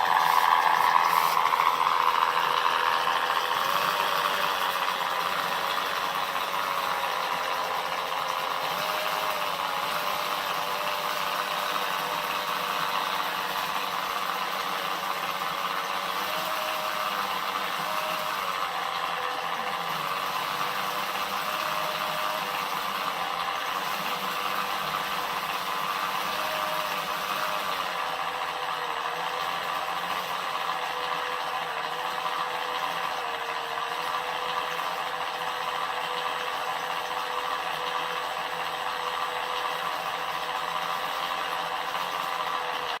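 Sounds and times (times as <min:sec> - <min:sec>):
model truck whirring and rattling: 0:00.0 - 0:43.0.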